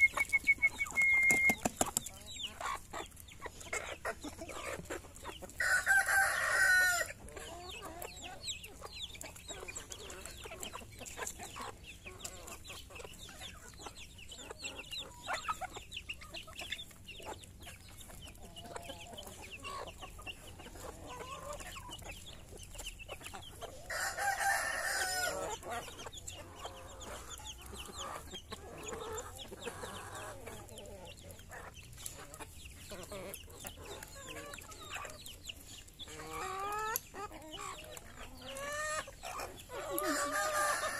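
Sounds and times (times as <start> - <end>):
hens clucking softly: 0.0 - 40.9.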